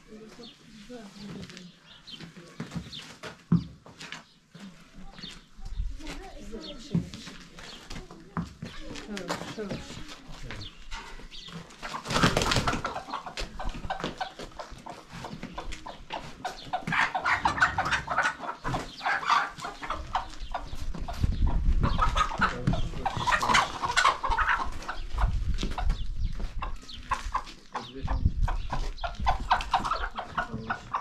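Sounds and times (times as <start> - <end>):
chickens clucking and cackling: 0.0 - 31.0.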